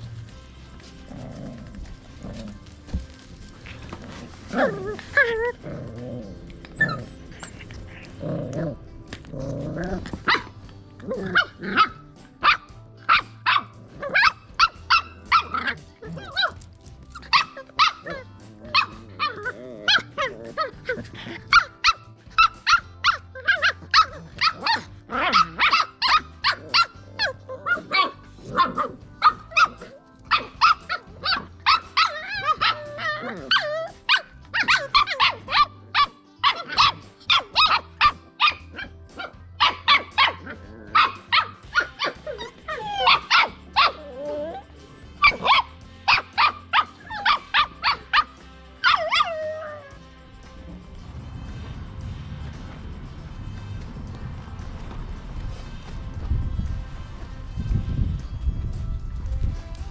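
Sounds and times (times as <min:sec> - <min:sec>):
puppies barking and yipping: 0:00.0 - 0:58.4.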